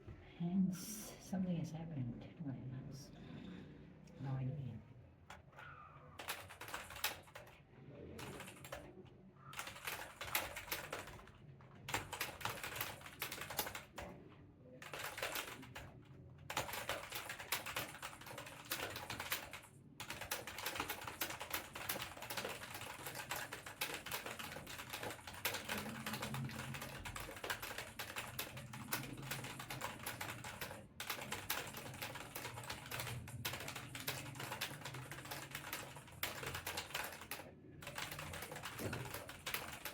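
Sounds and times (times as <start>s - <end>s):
fast mechanical keyboard typing: 6.2s - 14.2s, 14.8s - 39.9s.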